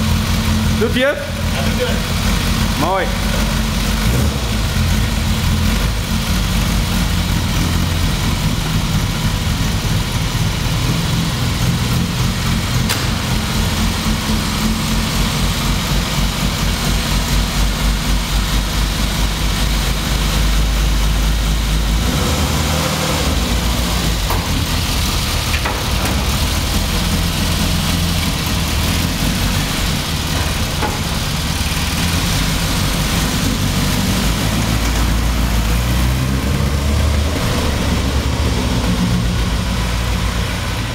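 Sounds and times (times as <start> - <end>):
car engine idling rumble: 0.0 - 22.0, 23.4 - 40.9.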